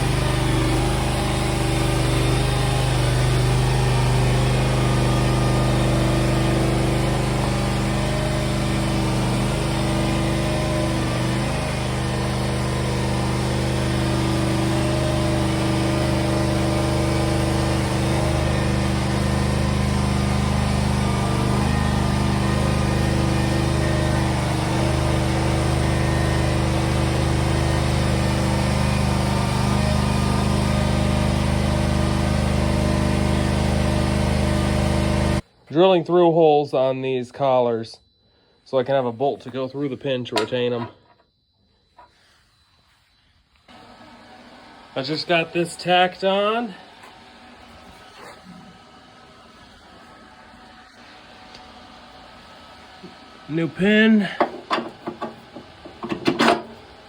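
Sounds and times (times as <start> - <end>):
motor running steadily: 0.0 - 35.4, 43.7 - 57.0.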